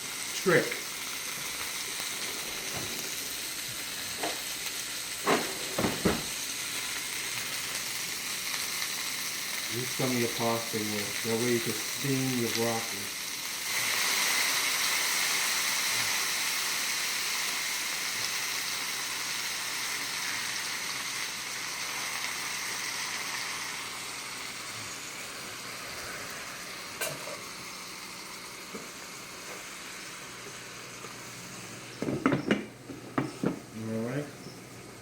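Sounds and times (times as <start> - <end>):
water sizzling in hot pan: 0.0 - 32.7.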